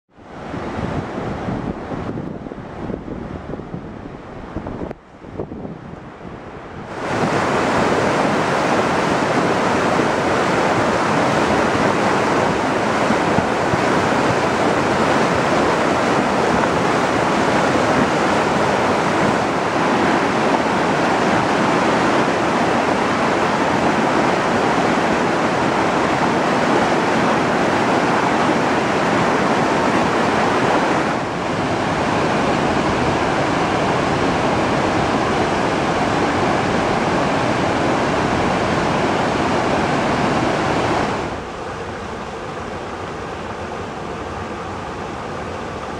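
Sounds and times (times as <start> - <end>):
churning water rushing: 0.1 - 45.9.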